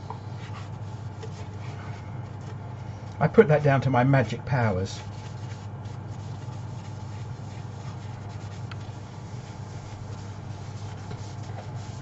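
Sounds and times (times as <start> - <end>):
cloth rubbing on wood: 0.0 - 2.9, 5.0 - 12.0
steady low hum: 0.0 - 12.0.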